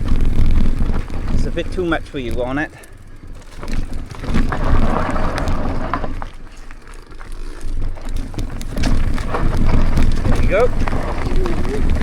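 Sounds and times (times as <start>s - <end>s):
bicycle crunching on rough path: 0.0s - 12.0s
wind rumbling on microphone: 0.0s - 12.0s.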